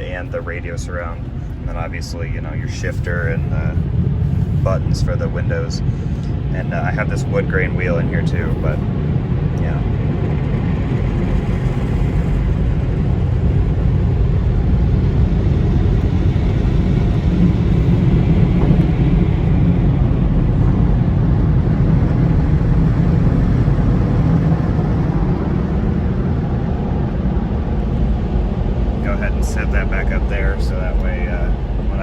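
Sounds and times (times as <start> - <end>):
automatic car wash rumble: 0.0 - 32.0.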